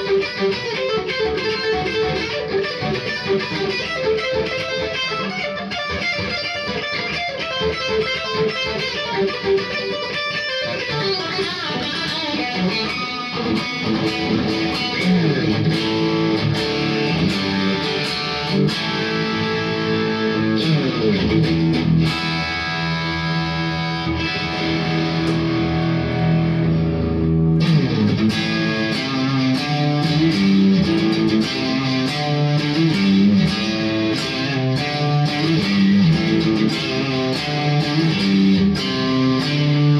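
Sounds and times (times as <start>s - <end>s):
electric guitar lead: 0.0s - 39.9s.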